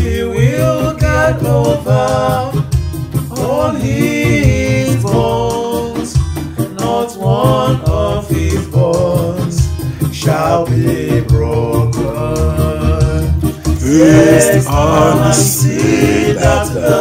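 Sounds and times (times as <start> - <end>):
man singing: 0.0 - 2.7, 3.3 - 17.0
electronic keyboard: 0.0 - 17.0.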